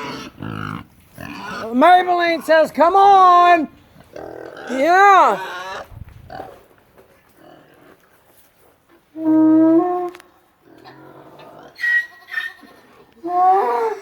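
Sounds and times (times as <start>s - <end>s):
farm animals calling: 0.0s - 6.7s, 8.9s - 14.0s.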